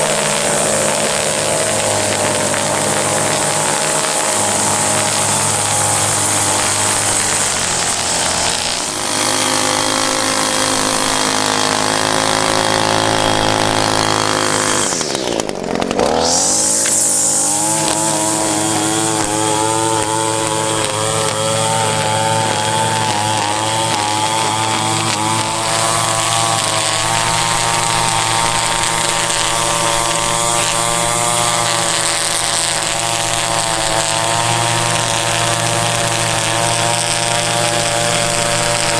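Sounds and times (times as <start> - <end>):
string trimmer engine running: 0.0 - 38.9.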